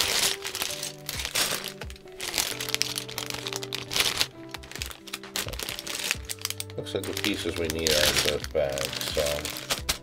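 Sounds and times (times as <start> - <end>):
background music with sustained notes: 0.0 - 10.0
plastic bags crinkling and rustling: 0.0 - 10.0.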